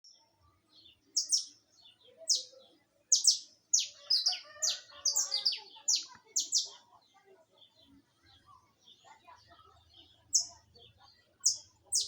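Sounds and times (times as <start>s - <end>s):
finch singing: 0.7s - 6.9s, 7.6s - 12.0s.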